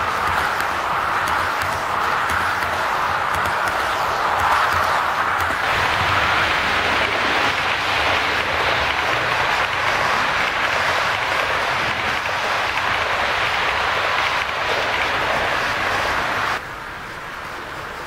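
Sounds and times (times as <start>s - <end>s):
model train wheels rolling on rails: 0.0s - 18.0s.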